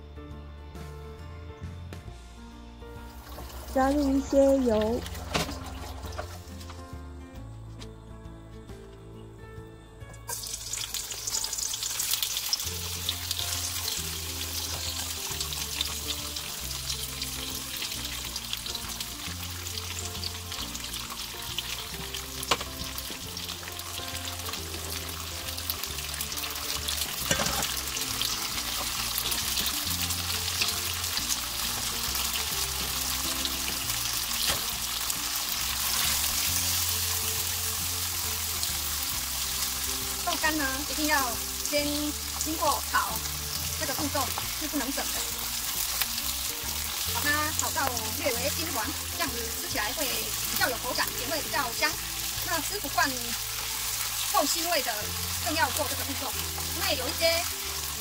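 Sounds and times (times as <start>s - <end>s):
soft background music: 0.0s - 58.0s
tofu sizzling in oil: 2.9s - 6.9s, 10.2s - 58.0s.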